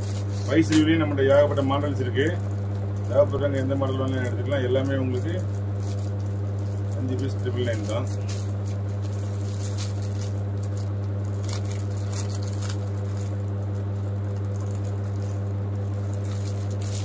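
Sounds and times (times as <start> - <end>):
low electrical hum: 0.0 - 17.0
plastic packaging crinkling: 0.0 - 17.0.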